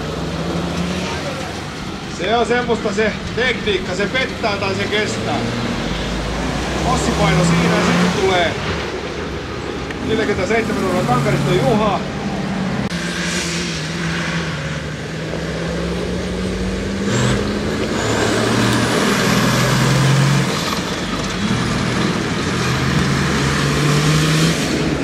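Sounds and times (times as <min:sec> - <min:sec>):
buggy engine running hard: 0:00.0 - 0:25.0.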